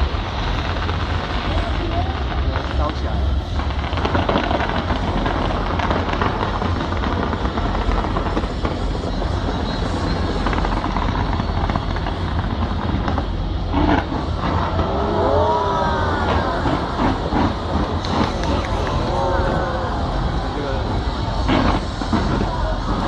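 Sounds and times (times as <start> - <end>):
fireworks booming and crackling: 0.0 - 23.0.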